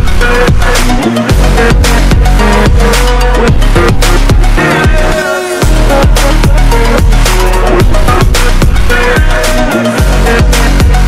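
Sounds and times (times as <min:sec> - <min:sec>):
loud electronic music: 0:00.0 - 0:11.0.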